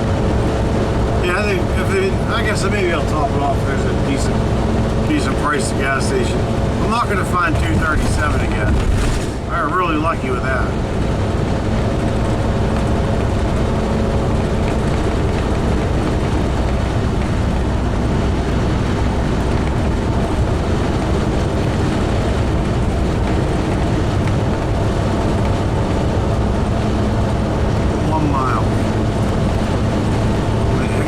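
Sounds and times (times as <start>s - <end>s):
motorhome engine and road noise: 0.0s - 31.0s.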